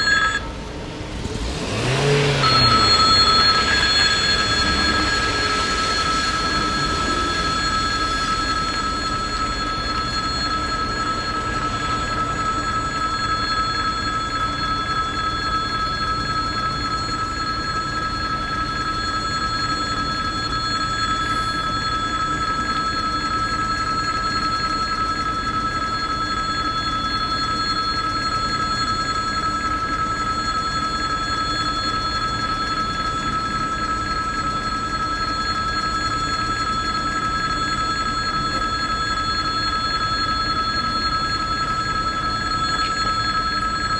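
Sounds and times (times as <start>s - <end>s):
level-crossing warning bell ringing: 0.0s - 43.9s.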